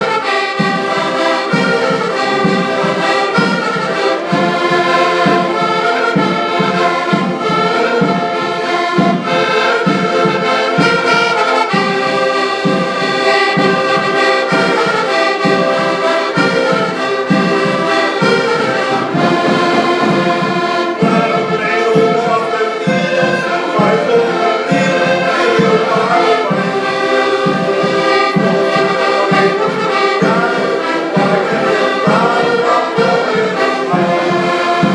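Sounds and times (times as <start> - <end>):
band playing brass-led music: 0.0 - 34.9.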